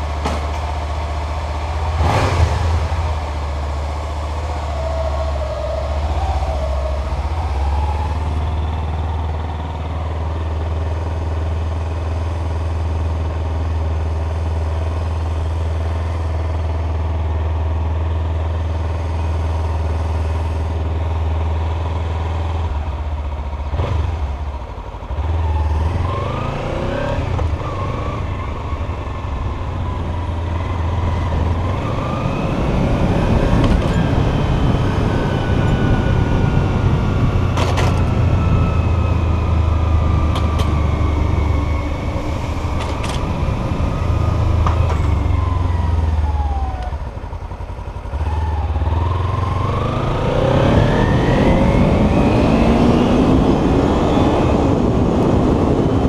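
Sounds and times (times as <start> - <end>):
low wind rumble: 0.0 - 56.0
motorcycle engine revving: 0.0 - 56.0.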